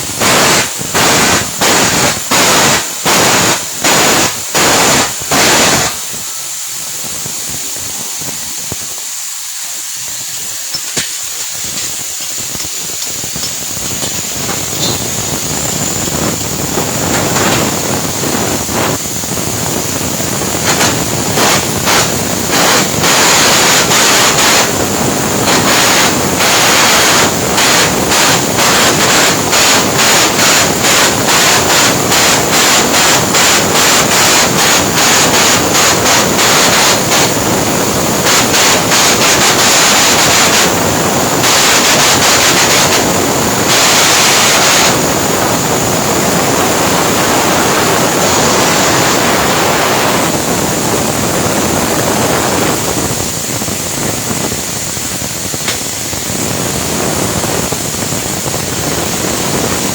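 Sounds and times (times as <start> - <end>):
welding arc crackling: 0.0 - 59.9.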